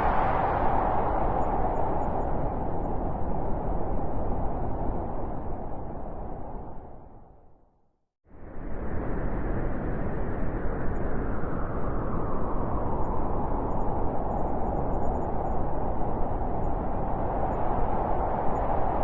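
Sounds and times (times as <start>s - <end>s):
blizzard wind blowing hard: 0.0s - 7.6s, 8.3s - 19.0s.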